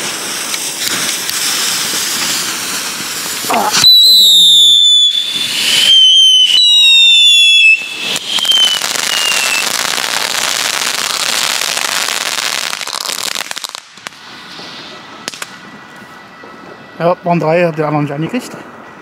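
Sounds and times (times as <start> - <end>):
crackling hissing sparks: 0.0 - 18.5
firework whistling: 0.0 - 19.0.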